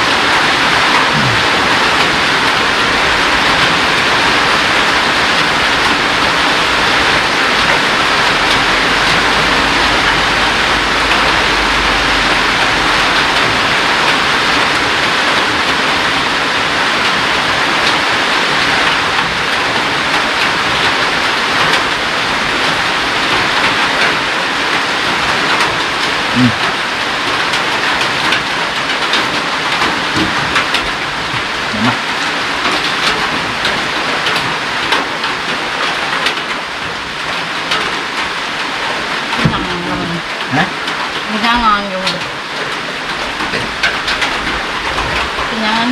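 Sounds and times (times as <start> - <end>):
heavy rain hiss: 0.0 - 45.9.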